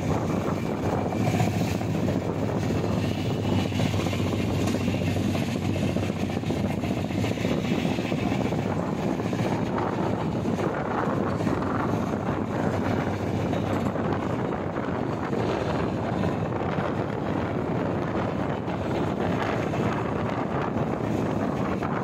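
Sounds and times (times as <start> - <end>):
rushing air: 0.0 - 22.0
train wheels rumbling on rails: 0.0 - 22.0.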